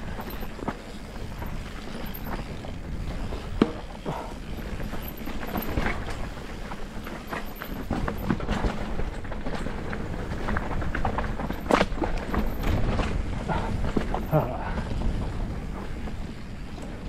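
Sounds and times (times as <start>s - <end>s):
bike rattling: 0.0s - 17.0s
bike tyres rolling over stones: 0.0s - 17.0s.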